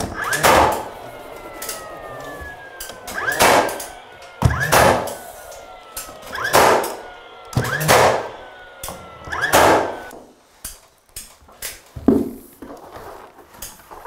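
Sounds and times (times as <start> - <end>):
cordless stapler firing: 0.0 - 11.8
stapler whine: 0.0 - 11.9.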